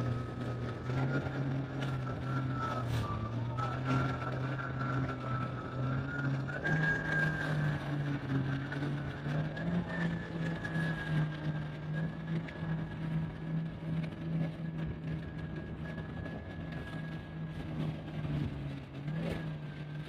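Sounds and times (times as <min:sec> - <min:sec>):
high engine whine: 0:00.0 - 0:20.0
jet ski engine pulsing: 0:00.0 - 0:20.0.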